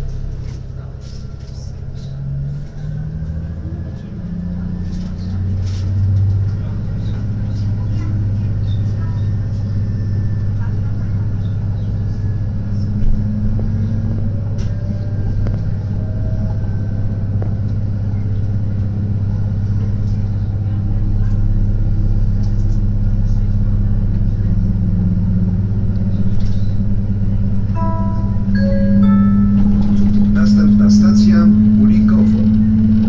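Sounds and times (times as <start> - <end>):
diesel engine drone: 0.0 - 33.0
rail rolling noise: 0.0 - 33.0.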